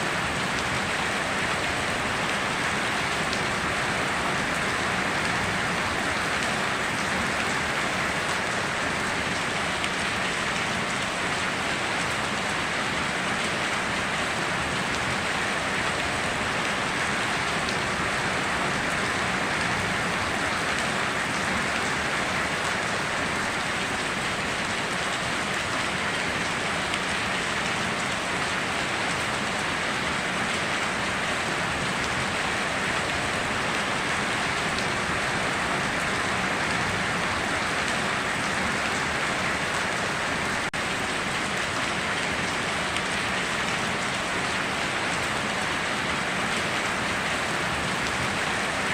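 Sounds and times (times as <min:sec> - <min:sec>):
heavy rain on foliage: 0:00.0 - 0:48.9.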